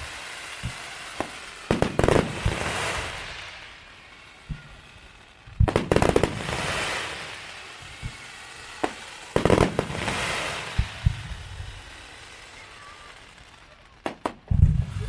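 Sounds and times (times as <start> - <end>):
fireworks bangs with hiss: 0.0 - 15.0.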